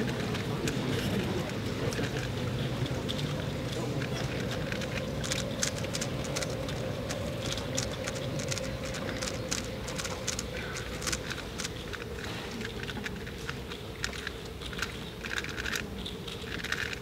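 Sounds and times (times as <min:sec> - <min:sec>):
puzzle cube clicking: 0:00.0 - 0:17.0
room hum: 0:00.0 - 0:17.0.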